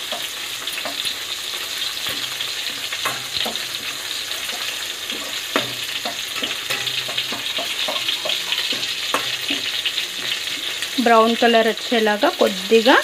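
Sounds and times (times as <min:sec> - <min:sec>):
spatula scraping a pan: 0:00.0 - 0:11.4
food sizzling in hot oil: 0:00.0 - 0:13.0.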